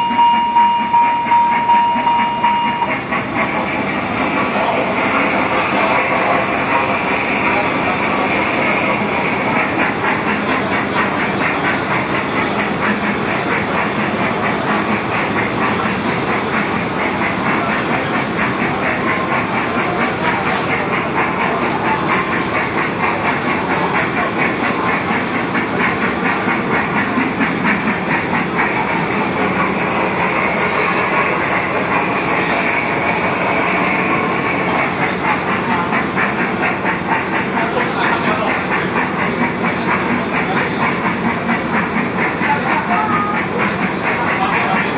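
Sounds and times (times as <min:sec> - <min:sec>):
kiddie ride train clattering: 0:00.0 - 0:44.9.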